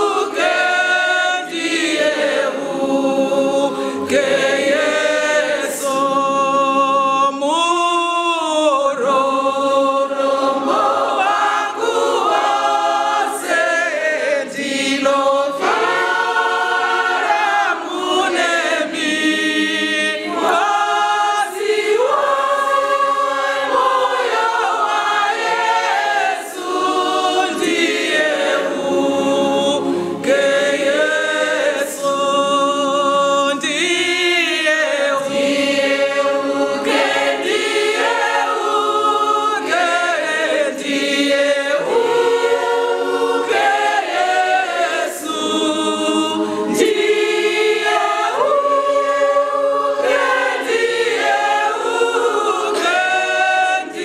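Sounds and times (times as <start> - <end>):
women's choir singing a hymn: 0.0 - 54.0.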